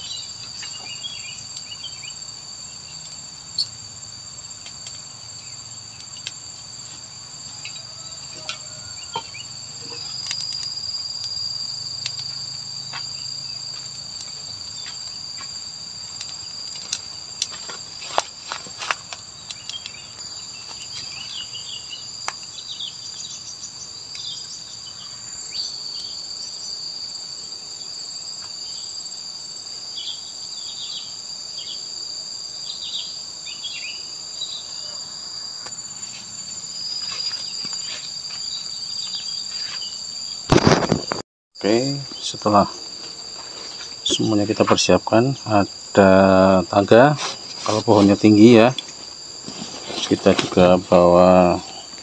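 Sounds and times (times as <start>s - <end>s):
insect chorus drone: 0.0s - 52.0s.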